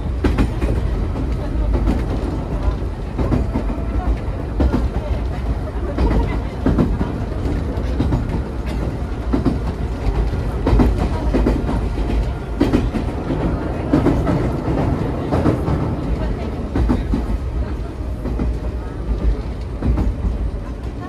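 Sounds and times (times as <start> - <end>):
train interior rumble: 0.0 - 21.0.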